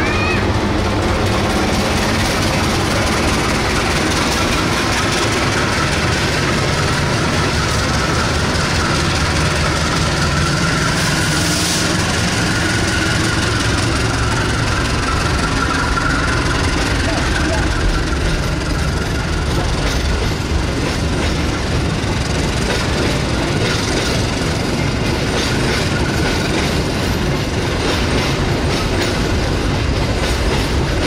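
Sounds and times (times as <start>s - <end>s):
locomotive engine running: 0.0s - 31.0s
train wheels rumbling on rails: 0.0s - 31.0s.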